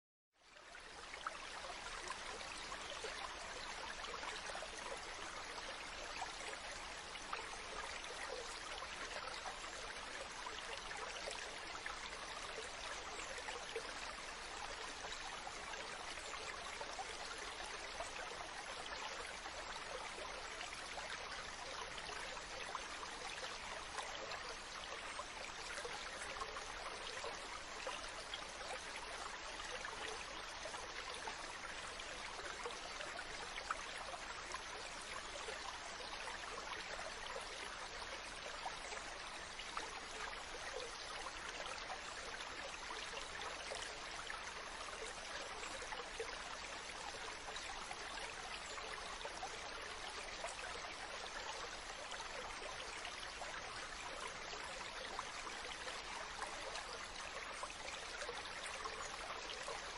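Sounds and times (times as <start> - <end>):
stream water splashing over rocks: 0.6 - 59.9.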